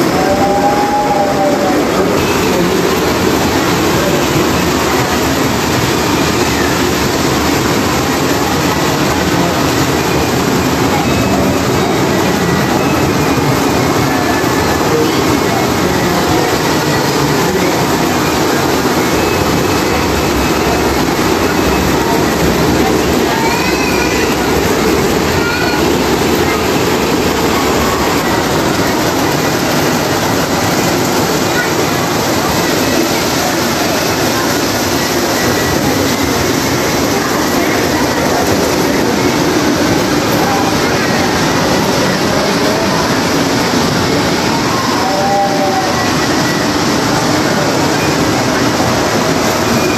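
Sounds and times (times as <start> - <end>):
faint voices: 0.0 - 49.9
model train wheels rolling: 0.0 - 49.9.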